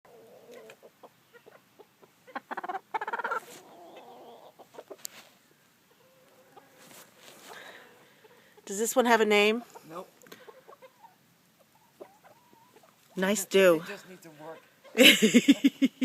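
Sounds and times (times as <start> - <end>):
chickens clucking: 0.1 - 13.3, 14.0 - 16.0
drawn-out chicken calls: 0.1 - 16.0.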